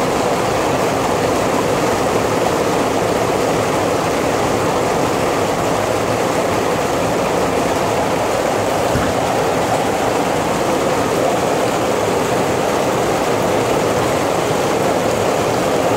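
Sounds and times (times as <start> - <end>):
rain falling steadily: 0.0 - 15.9.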